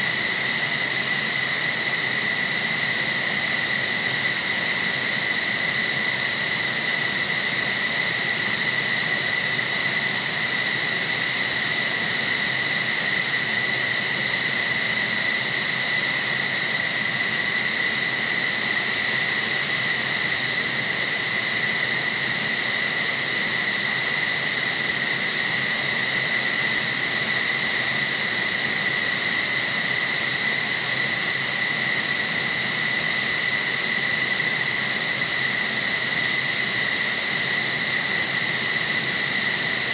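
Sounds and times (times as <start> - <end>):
jet engines idling whine: 0.0 - 39.9.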